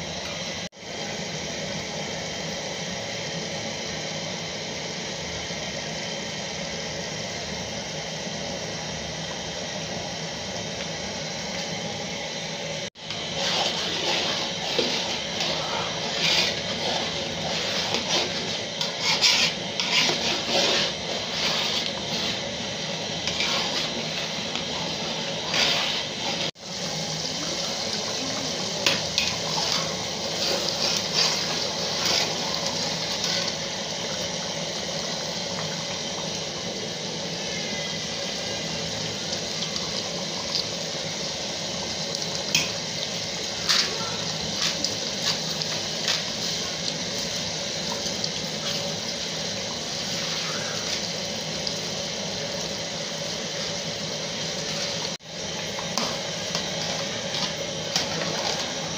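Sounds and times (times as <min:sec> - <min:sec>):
pot boiling with bubbling hiss: 0:00.0 - 0:58.9.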